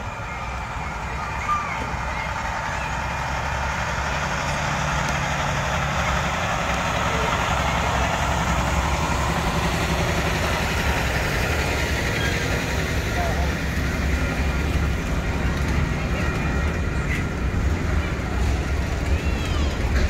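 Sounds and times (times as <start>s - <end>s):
diesel engine rumble: 0.0s - 20.0s
rail cars rattling on rails: 0.0s - 20.0s.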